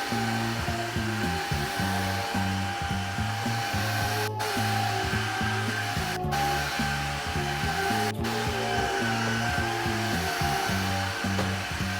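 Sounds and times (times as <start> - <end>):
music with low melody: 0.0 - 11.9
vacuum cleaner running: 0.0 - 11.9.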